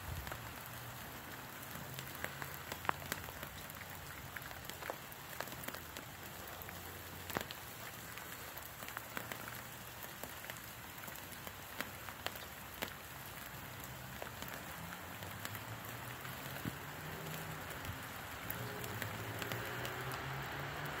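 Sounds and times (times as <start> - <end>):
sparkler crackles and pops: 0.0 - 21.0.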